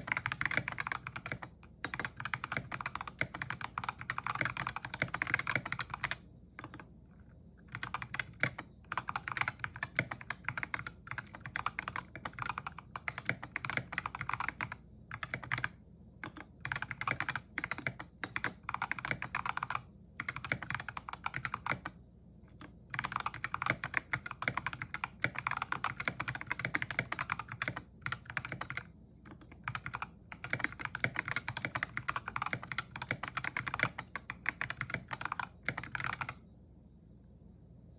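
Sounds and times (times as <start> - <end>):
typing on mechanical keyboard: 0.0 - 6.9, 7.6 - 36.4.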